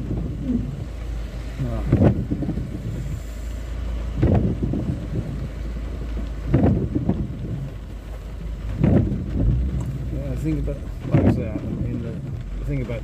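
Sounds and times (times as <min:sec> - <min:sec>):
car engine idling: 0:00.0 - 0:13.0
rain on car bodywork: 0:00.0 - 0:13.0
windscreen wipers squeaking: 0:00.0 - 0:13.0.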